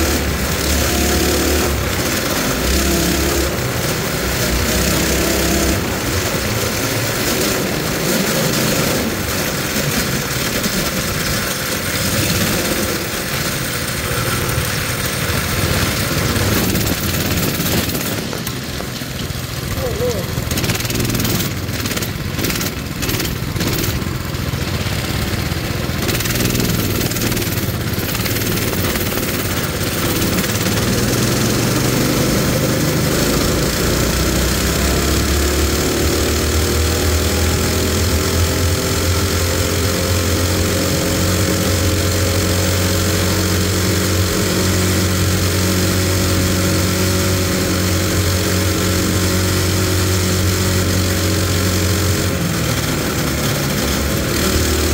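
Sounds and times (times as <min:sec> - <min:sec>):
mini bike engine running: 0:00.0 - 0:54.9.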